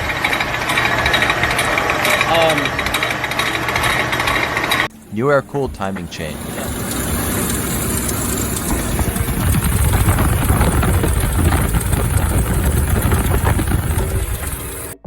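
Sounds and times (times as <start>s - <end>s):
car engine clattering: 0.0s - 15.0s.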